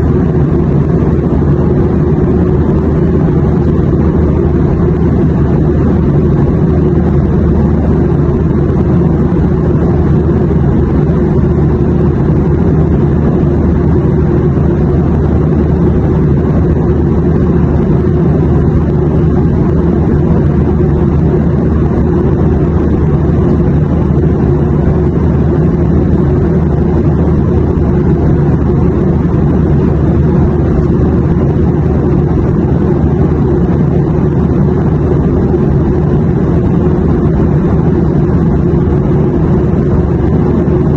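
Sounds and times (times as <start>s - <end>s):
airplane cabin engine drone: 0.0s - 40.9s.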